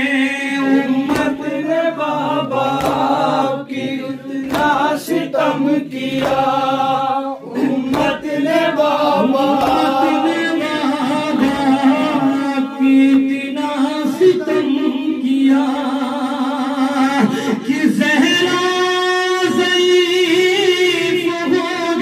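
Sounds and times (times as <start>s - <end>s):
men chanting a lament: 0.0s - 22.0s.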